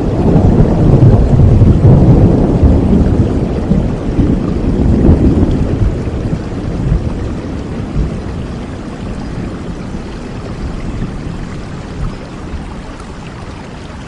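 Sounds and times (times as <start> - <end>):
low rumble of thunder: 0.0 - 14.0
steady rain: 0.0 - 14.0.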